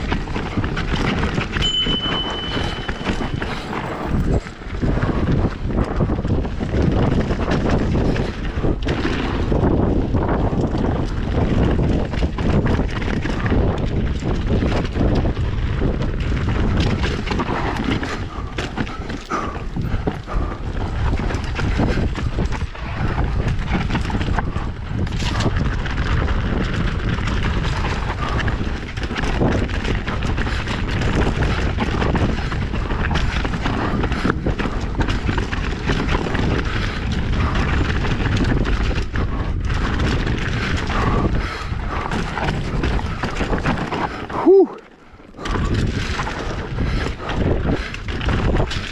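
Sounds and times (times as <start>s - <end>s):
bike rattling over rocky trail: 0.0s - 48.9s
wind buffeting microphone: 0.0s - 48.9s.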